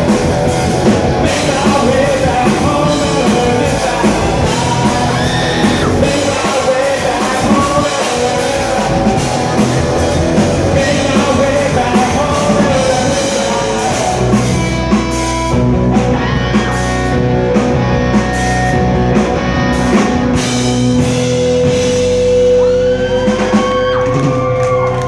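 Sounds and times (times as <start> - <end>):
drum kit: 0.0 - 25.0
electric bass: 0.0 - 25.0
electric guitar: 0.0 - 25.0.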